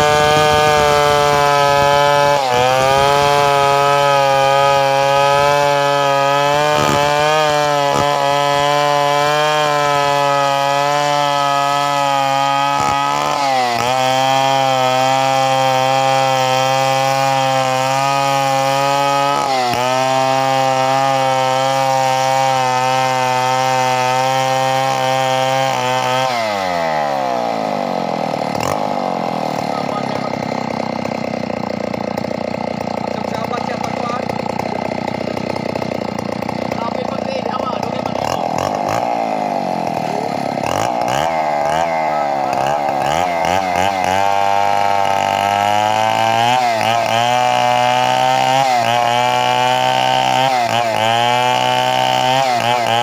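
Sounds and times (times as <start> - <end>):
chainsaw running at high revs: 0.0 - 53.0.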